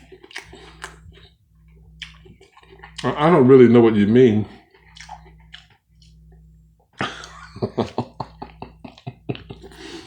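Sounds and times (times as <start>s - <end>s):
chewing clicks and smacks: 0.0s - 3.2s, 4.5s - 9.6s.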